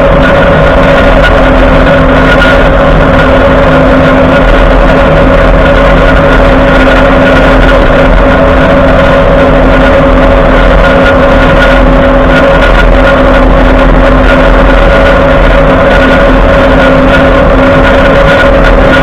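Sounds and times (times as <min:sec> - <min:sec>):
road and driveline noise: 0:00.0 - 0:19.0
whine-like grind: 0:00.0 - 0:19.0.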